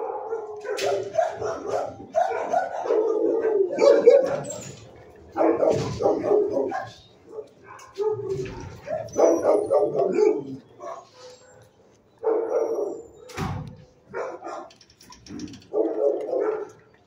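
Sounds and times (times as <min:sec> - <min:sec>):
dogs barking: 0:00.0 - 0:17.0.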